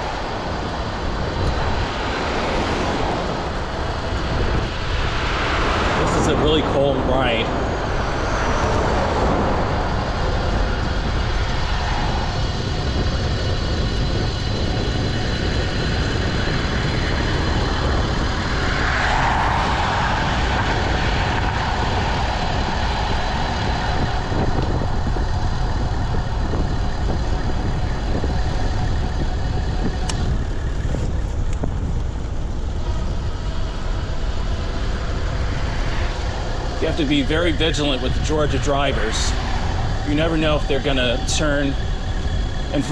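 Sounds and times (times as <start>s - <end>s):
car passing: 0.0s - 42.9s
road traffic: 0.0s - 42.9s
wind rumbling on microphone: 0.0s - 42.9s.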